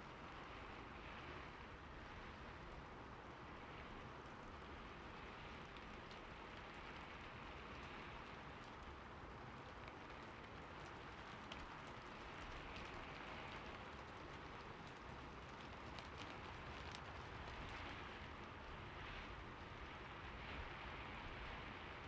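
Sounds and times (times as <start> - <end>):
rain on a roof: 0.0 - 22.0.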